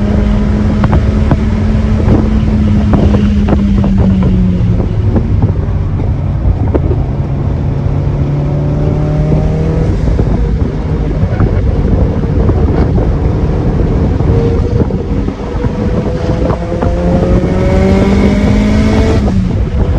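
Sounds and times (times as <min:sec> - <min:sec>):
car engine accelerating: 0:00.0 - 0:19.9
wind noise on microphone: 0:00.0 - 0:19.9.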